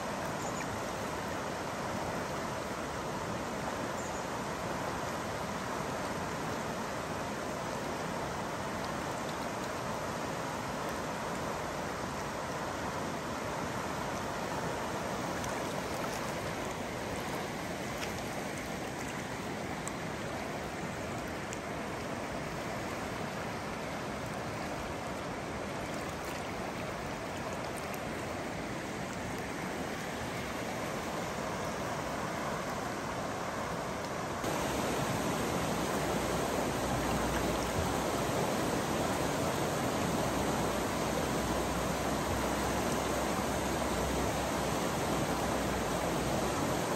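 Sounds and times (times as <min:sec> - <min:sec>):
river rushing over rocks: 0:00.0 - 0:46.9.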